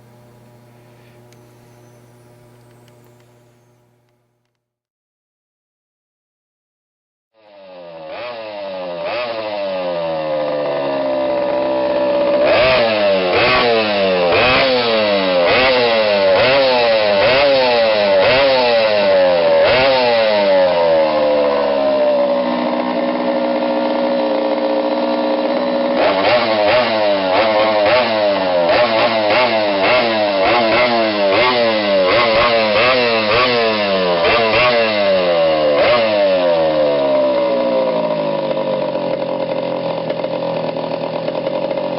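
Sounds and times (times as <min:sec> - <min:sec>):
go-kart engine revving: 0:00.0 - 0:04.0, 0:07.4 - 0:41.9.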